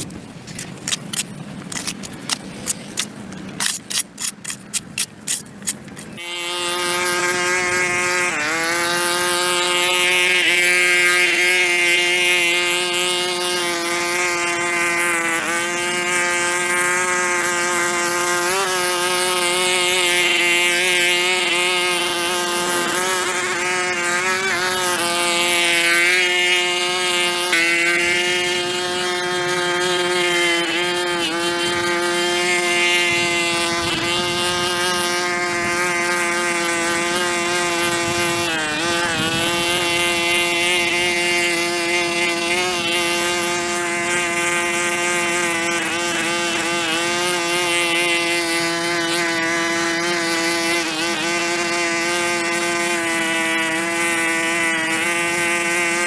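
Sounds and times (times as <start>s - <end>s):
power tool engine running: 0.0s - 56.0s.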